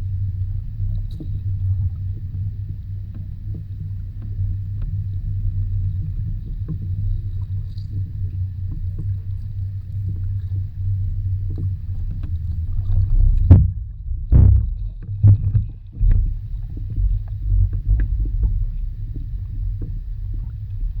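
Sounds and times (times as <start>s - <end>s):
underwater low rumble: 0.0s - 21.0s
underwater knocks: 1.0s - 21.0s.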